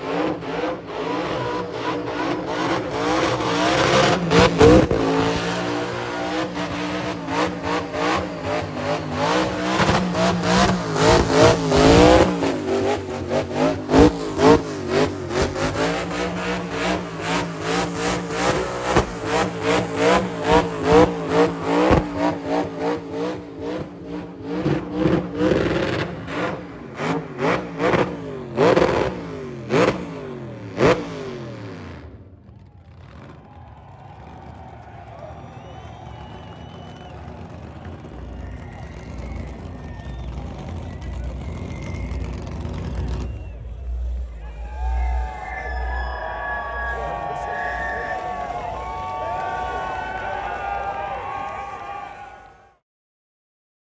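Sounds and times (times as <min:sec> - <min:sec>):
car engine revving: 0:00.0 - 0:33.6, 0:35.6 - 0:51.0.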